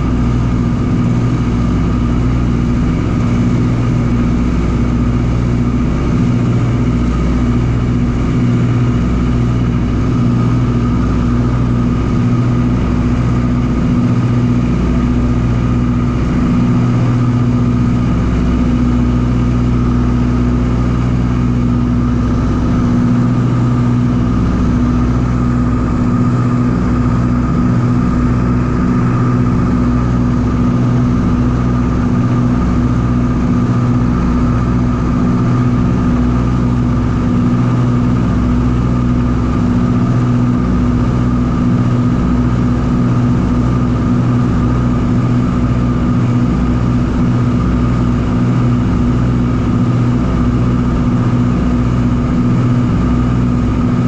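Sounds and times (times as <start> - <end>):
propeller plane engines droning: 0.0 - 54.0.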